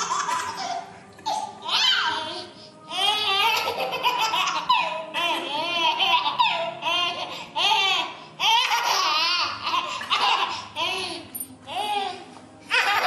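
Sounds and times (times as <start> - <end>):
baby laughing: 0.0 - 11.2, 12.0 - 13.0.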